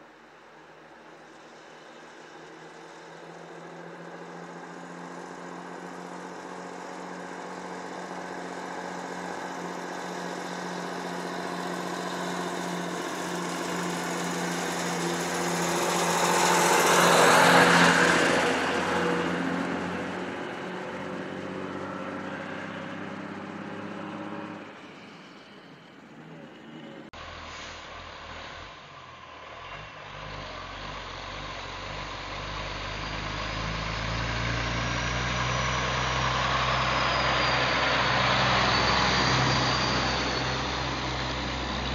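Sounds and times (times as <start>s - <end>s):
truck diesel engine: 0.0s - 41.9s.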